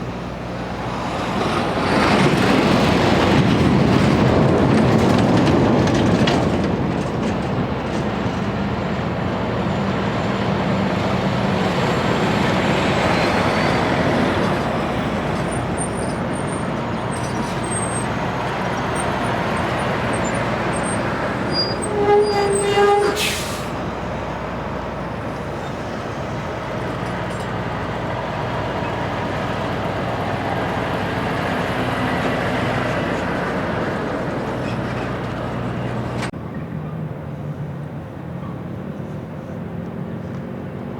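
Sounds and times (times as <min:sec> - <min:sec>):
heavy vehicles rumbling past: 0:00.0 - 0:40.9.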